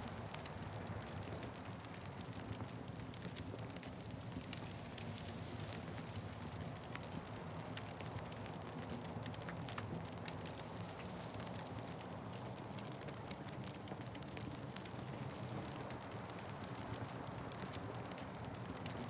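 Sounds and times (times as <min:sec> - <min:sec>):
low rumble of burning: 0:00.0 - 0:19.0
wood fire crackling: 0:00.1 - 0:19.0.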